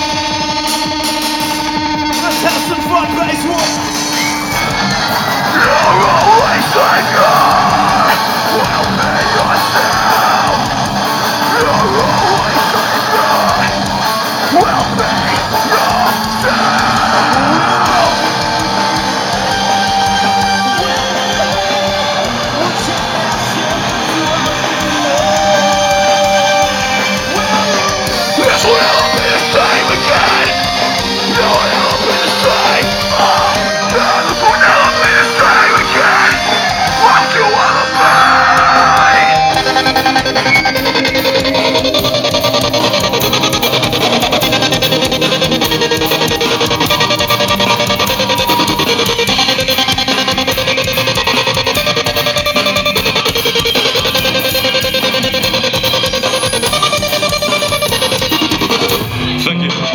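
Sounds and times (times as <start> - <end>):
heavy rock band playing live: 0.0 - 59.9
screamed lead vocal: 1.3 - 59.3.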